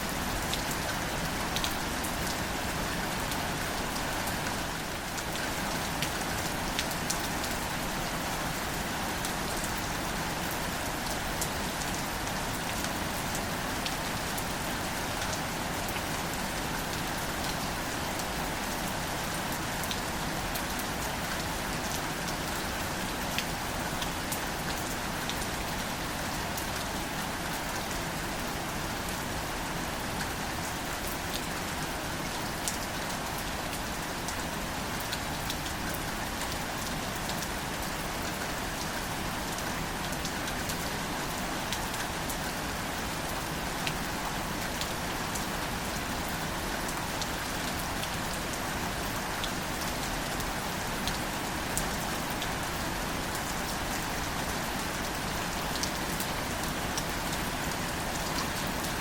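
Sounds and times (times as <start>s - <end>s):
steady rain on plants: 0.0s - 59.0s.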